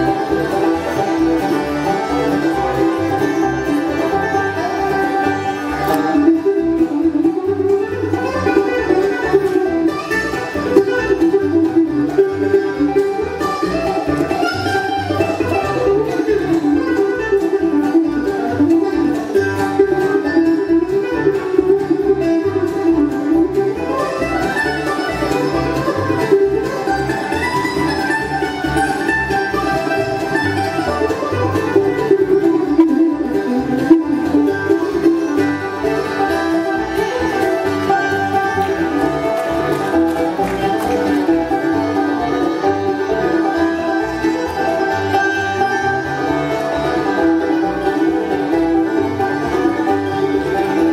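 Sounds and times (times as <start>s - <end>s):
bluegrass band playing: 0.0s - 50.9s.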